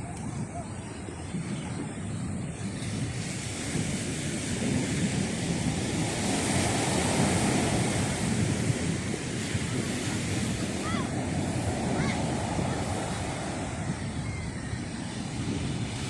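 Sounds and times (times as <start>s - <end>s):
ocean surf washing in: 0.0s - 16.0s
wind buffeting microphone: 0.0s - 16.0s.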